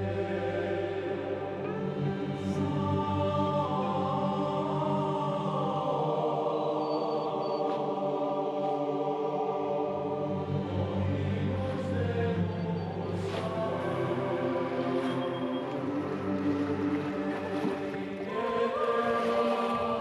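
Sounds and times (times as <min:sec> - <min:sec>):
choir-like chanting chords: 0:00.0 - 0:20.0.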